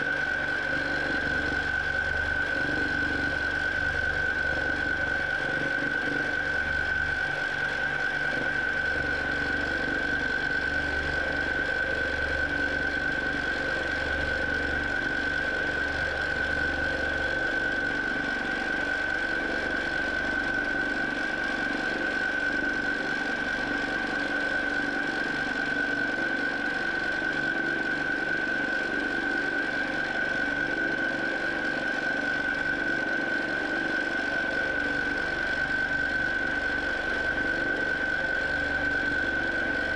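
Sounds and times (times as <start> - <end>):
machine low mechanical hum: 0.0 - 39.9
quilting machine high whine: 0.0 - 39.9.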